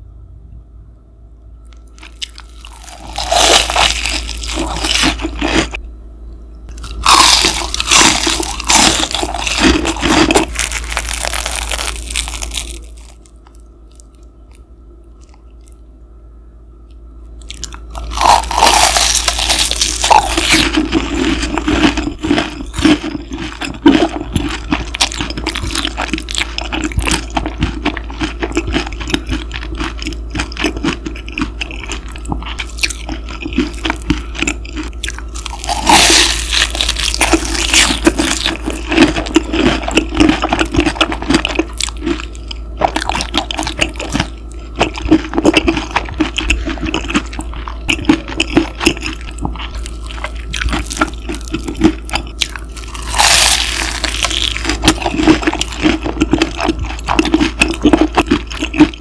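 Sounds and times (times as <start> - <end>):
low machine hum: 0.0 - 59.0
crunchy chewing: 1.6 - 5.8, 6.7 - 16.0, 16.8 - 59.0.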